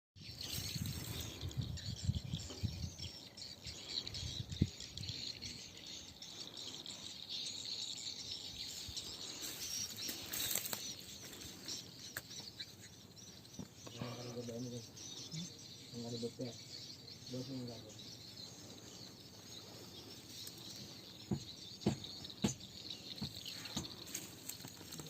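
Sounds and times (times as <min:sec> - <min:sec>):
birds chirping: 0:00.2 - 0:25.0
insects chirring: 0:00.3 - 0:25.0.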